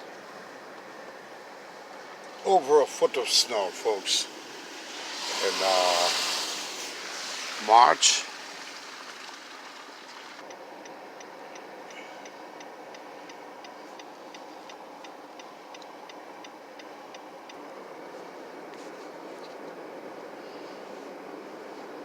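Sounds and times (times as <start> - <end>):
distant traffic hiss: 0.0 - 22.0.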